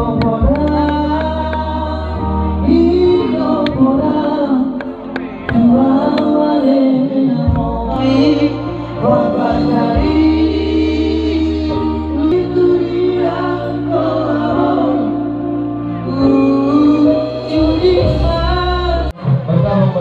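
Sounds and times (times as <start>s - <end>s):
song with group singing: 0.0s - 19.9s.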